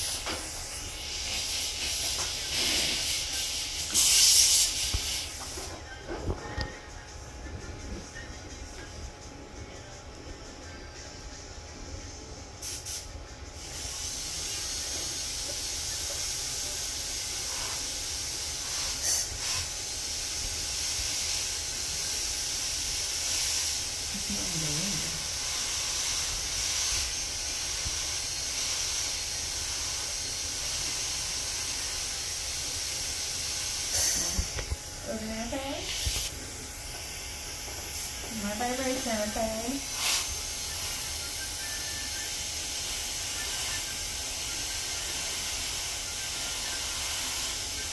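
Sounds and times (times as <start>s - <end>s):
dental drill hissing: 0.0s - 5.8s, 12.6s - 47.9s.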